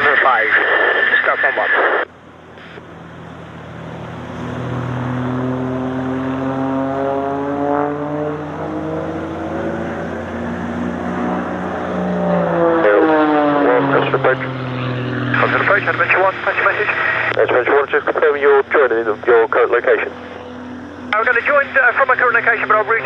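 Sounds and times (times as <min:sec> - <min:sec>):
propeller aircraft flying past: 0:00.0 - 0:23.0.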